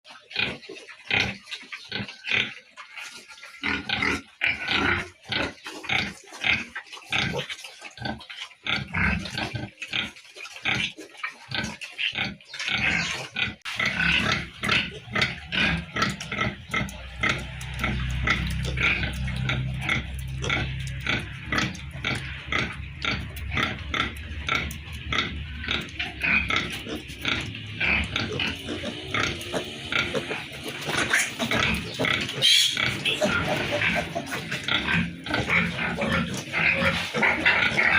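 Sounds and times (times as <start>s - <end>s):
piglets grunting and squealing: 0.2s - 37.9s.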